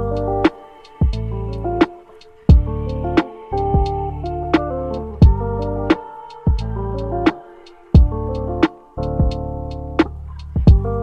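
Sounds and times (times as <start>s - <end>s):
music with deep bass and beat: 0.0s - 7.4s, 8.0s - 11.0s.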